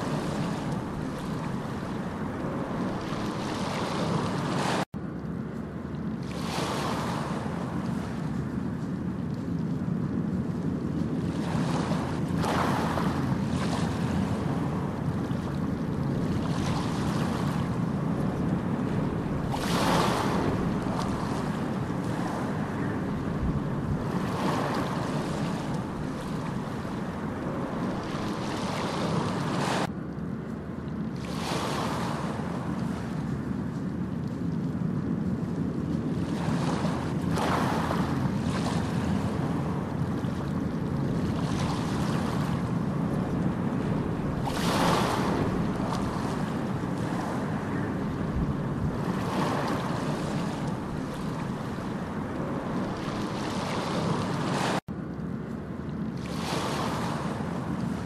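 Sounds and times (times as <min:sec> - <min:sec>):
steady rushing noise: 0:00.0 - 0:30.0, 0:31.2 - 0:55.4.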